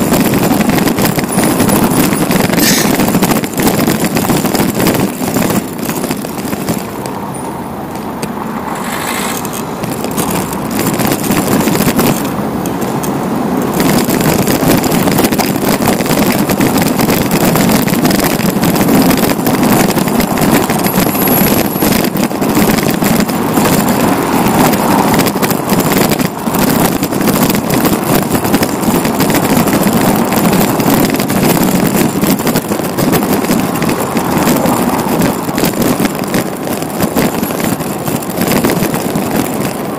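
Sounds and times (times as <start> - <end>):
bicycle knocks and rattles: 0.0 - 39.9
road and wind rumble: 0.0 - 39.9.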